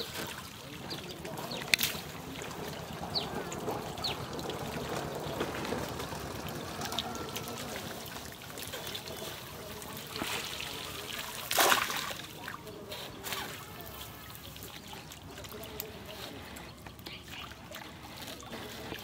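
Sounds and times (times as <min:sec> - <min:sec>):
water splash: 0:00.0 - 0:16.4
water trickling off a net: 0:00.0 - 0:19.0.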